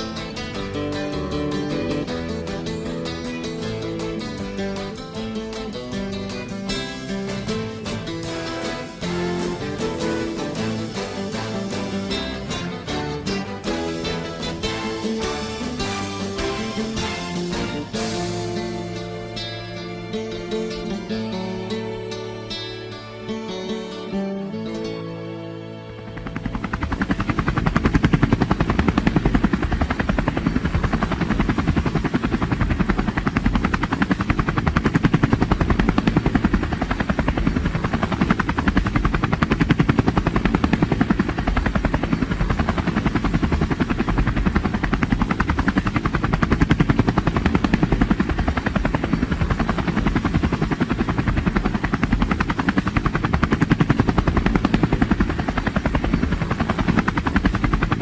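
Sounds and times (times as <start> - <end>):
helicopter rotor chopping: 0.0 - 19.8, 25.9 - 58.0.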